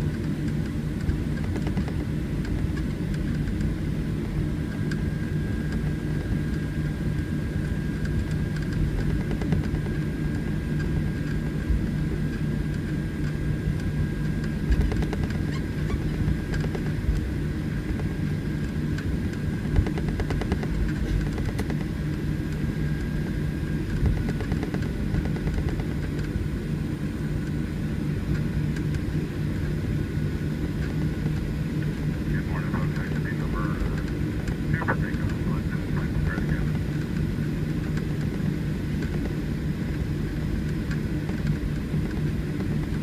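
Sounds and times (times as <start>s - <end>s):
aircraft engines humming: 0.0s - 43.0s.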